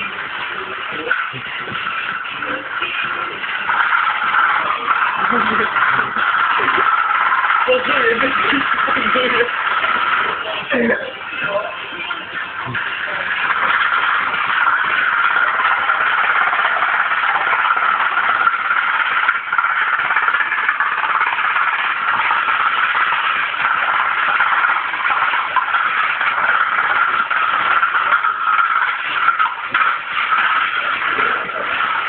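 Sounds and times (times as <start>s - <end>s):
windmill rotor whirring: 0.0s - 32.0s.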